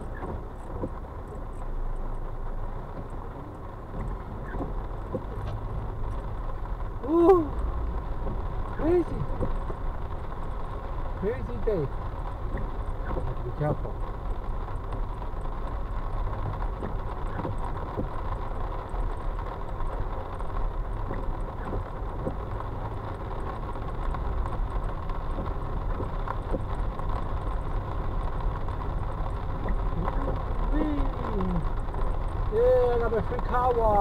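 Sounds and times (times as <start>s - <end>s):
car engine and road noise: 0.0s - 34.0s
rain and wipers on windshield: 0.0s - 34.0s.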